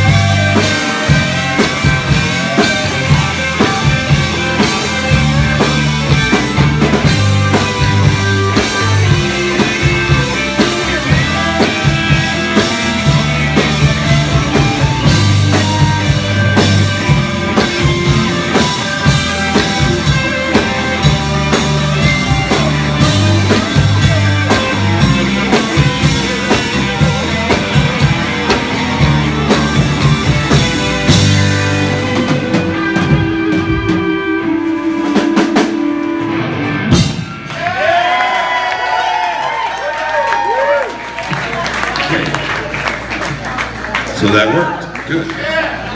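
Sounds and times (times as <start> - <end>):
drum kit beat: 0.0 - 38.0
bass line: 0.0 - 43.8
electric guitars: 0.0 - 44.4.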